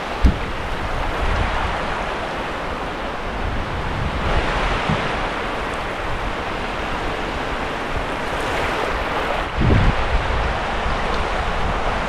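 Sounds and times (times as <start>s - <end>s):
surf washing on sandy beach: 0.0s - 12.0s
wind buffeting microphone: 0.0s - 12.0s.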